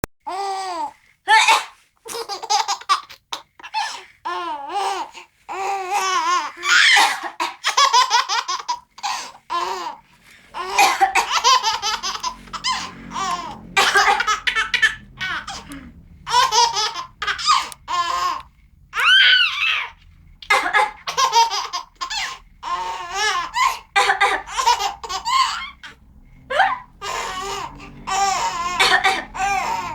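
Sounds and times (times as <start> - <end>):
baby laughing and squealing: 0.3 - 29.9.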